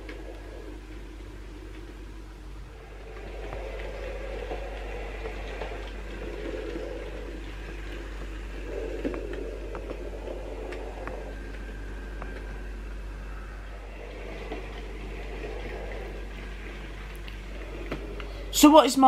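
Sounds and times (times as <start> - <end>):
model train motor hum: 0.0 - 19.0.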